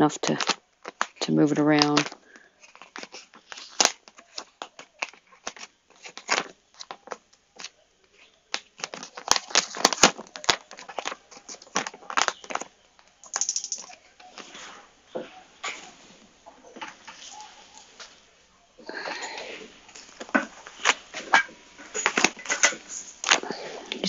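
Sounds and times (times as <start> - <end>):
plastic film crinkling: 0.0 - 18.3, 18.9 - 24.0.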